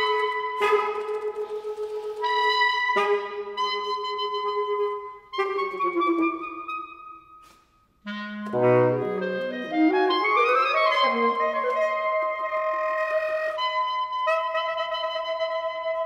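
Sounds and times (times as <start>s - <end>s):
clarinet: 0.0s - 16.0s
saxophone: 0.0s - 16.0s.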